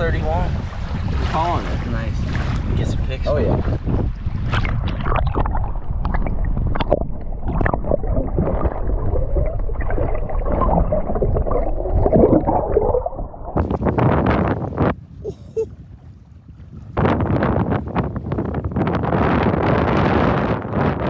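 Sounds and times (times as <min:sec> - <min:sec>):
shallow water sloshing and splashing: 0:00.0 - 0:18.8.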